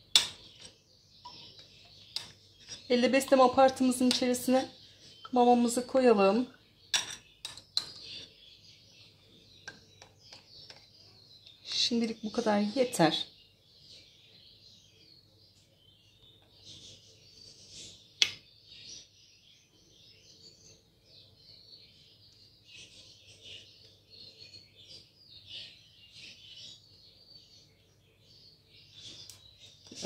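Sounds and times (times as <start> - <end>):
pet birds chirping and chattering: 0.0 - 30.0.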